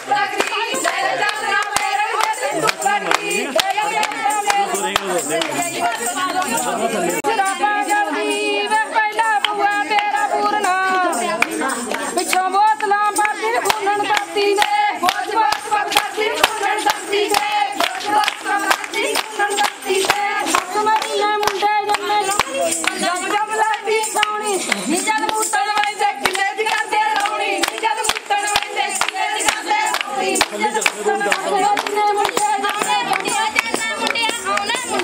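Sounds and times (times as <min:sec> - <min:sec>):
rhythmic hand-clapping: 0:00.0 - 0:35.0
women singing together: 0:00.0 - 0:35.0.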